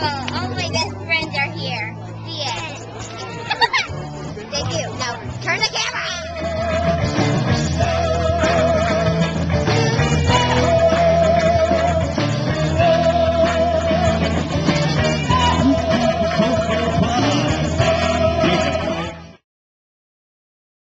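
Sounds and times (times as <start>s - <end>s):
electric guitar: 2.0s - 19.4s.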